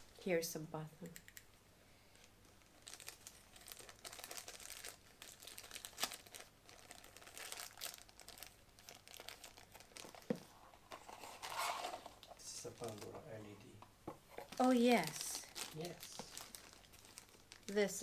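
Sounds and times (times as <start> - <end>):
packaging crinkling and rustling: 2.4 - 13.3, 14.3 - 18.0.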